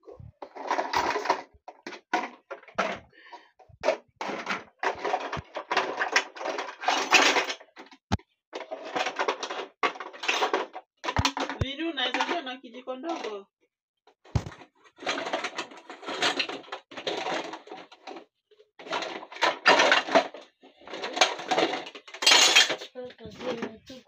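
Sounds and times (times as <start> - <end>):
plastic dishes clattering in basin: 0.1 - 13.3, 14.4 - 24.0.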